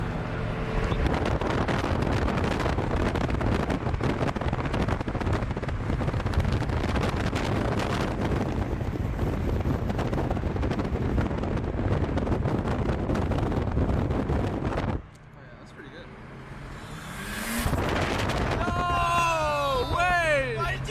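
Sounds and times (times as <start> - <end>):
wind buffeting microphone: 0.0 - 15.1, 16.4 - 20.1
vehicle engine noise: 0.0 - 20.9.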